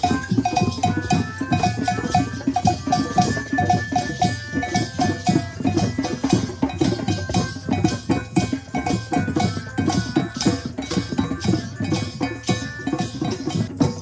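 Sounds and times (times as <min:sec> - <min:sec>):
music with percussion rhythm: 0:00.0 - 0:14.0.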